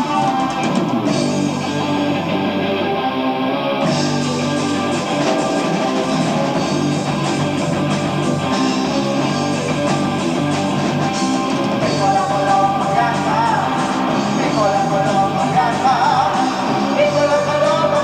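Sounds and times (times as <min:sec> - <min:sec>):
drum kit: 0:00.0 - 0:18.0
electric guitar: 0:00.0 - 0:18.0.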